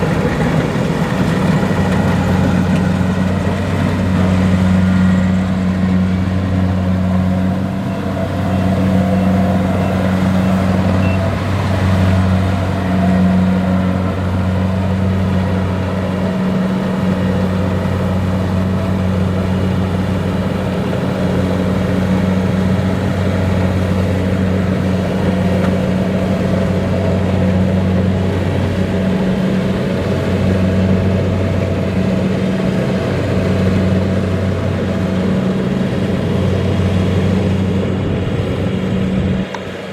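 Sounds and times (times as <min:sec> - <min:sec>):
harvester diesel engine droning: 0:00.0 - 0:39.9.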